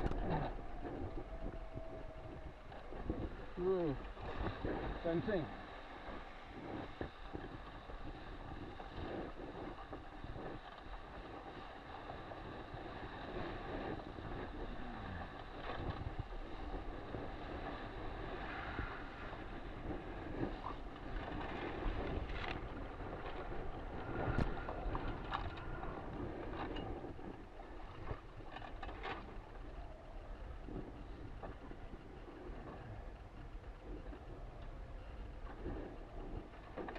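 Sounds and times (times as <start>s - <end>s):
water rushing along hull: 0.0s - 36.9s
wind buffeting microphone: 0.0s - 36.9s.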